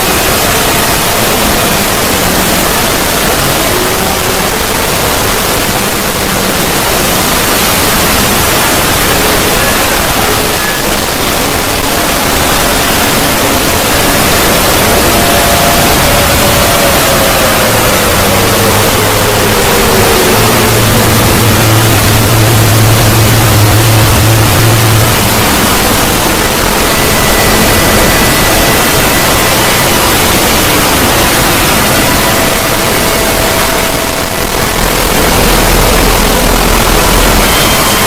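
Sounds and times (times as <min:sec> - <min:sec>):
loud static-like rushing noise: 0:00.0 - 0:38.0.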